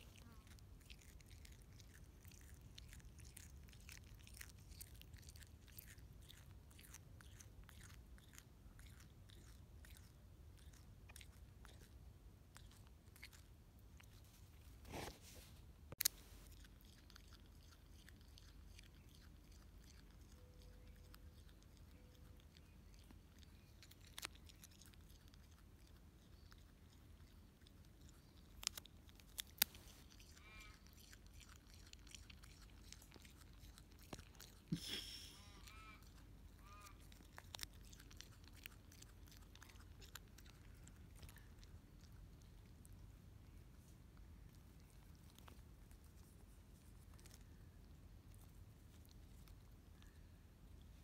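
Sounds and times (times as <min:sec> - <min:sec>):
animal munching leaves: 0:00.0 - 0:43.0, 0:43.6 - 0:49.9.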